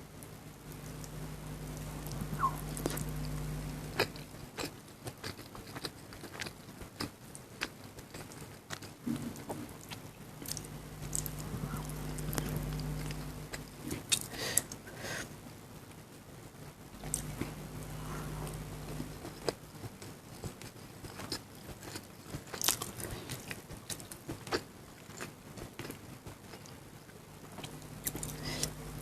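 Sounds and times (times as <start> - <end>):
low steady hum: 0.0 - 29.0
chewing and mouth sounds: 0.7 - 14.8, 17.0 - 28.8.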